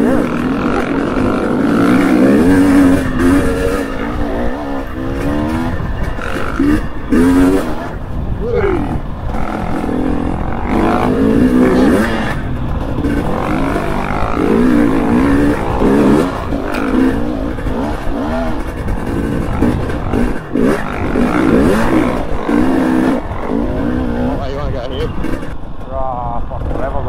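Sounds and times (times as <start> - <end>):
dirt bike engine revving: 0.0 - 25.8.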